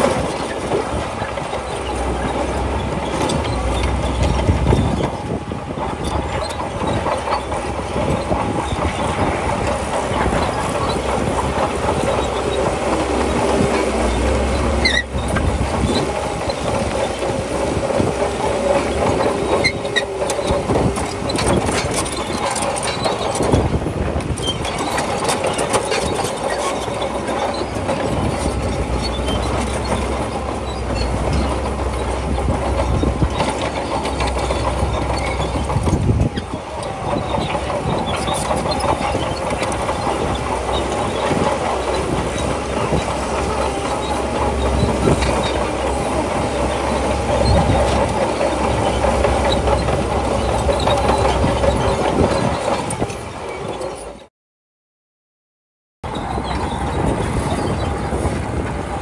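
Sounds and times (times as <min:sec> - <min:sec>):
bulldozer diesel engine: 0:00.0 - 0:54.3, 0:56.0 - 0:59.0
steel tracks and rock clanking: 0:00.0 - 0:54.3, 0:56.0 - 0:59.0.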